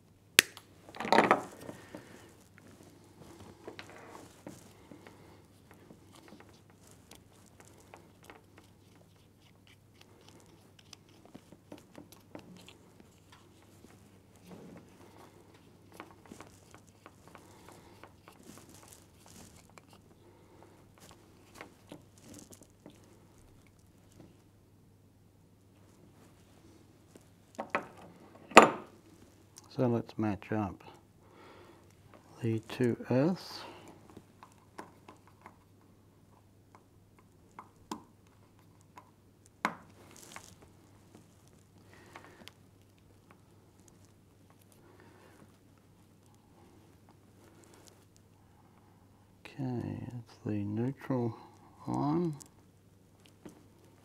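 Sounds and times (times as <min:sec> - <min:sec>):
soft hiss: 0:00.0 - 0:54.0
faint handling clicks and rustles: 0:00.8 - 0:24.6, 0:25.6 - 0:54.0.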